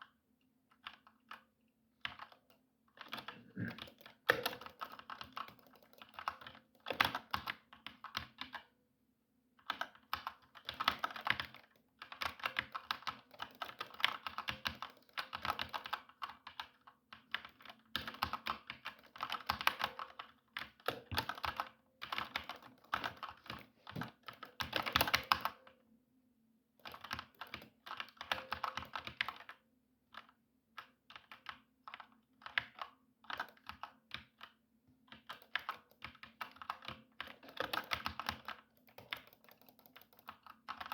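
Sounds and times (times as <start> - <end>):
typing on computer keyboard: 0.7 - 8.7, 9.6 - 25.7, 26.8 - 40.9.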